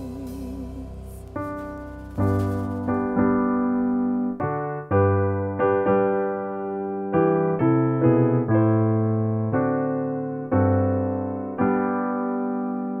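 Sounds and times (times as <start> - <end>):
slow piano-like chords: 0.0 - 13.0.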